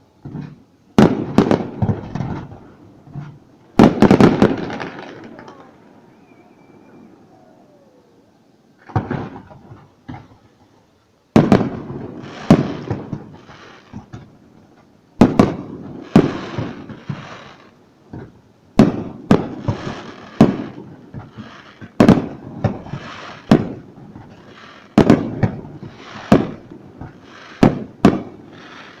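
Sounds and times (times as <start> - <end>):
fireworks bursting: 0.0 - 7.2, 8.8 - 10.4, 11.3 - 29.0.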